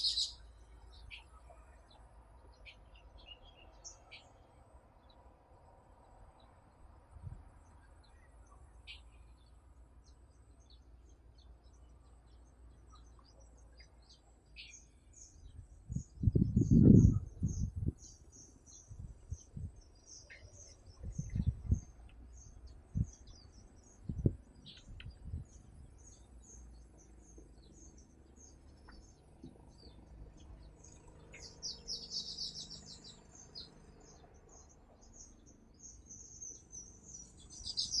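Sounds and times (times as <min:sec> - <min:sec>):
birds chirping: 0:00.0 - 0:05.3, 0:07.6 - 0:38.0.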